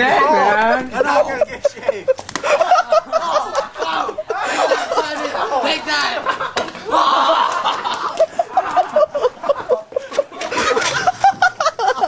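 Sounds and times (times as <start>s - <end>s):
man laughing hard: 0.3s - 12.0s.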